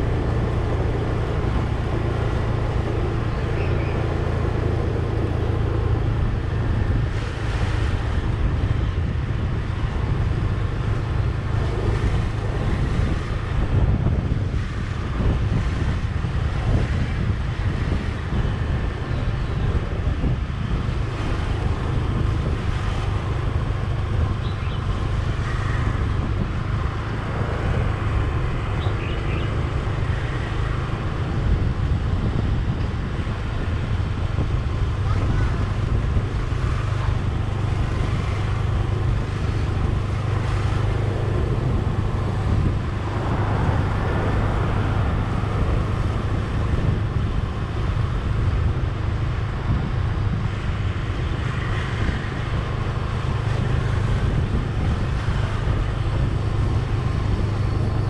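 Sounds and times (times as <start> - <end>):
vehicle road and engine noise: 0.0 - 58.0
wind rumble on microphone: 0.0 - 58.0.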